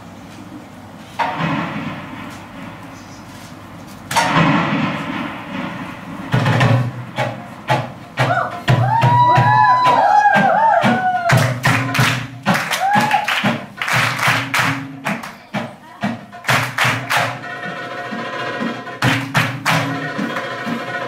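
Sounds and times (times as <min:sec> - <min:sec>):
fast frame drum strikes: 0:04.1 - 0:21.0.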